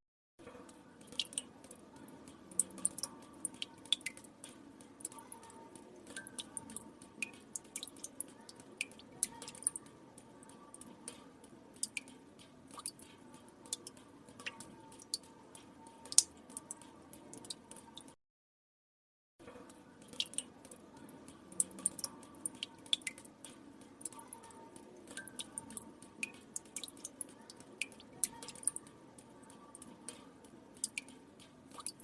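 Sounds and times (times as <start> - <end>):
water drops dripping: 0.4 - 18.2, 19.4 - 32.0.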